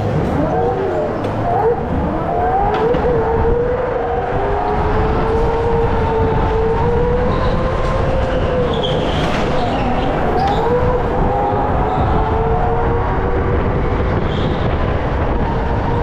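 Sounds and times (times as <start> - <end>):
go-kart motor whine: 0.0 - 16.0
low rumble: 0.0 - 16.0.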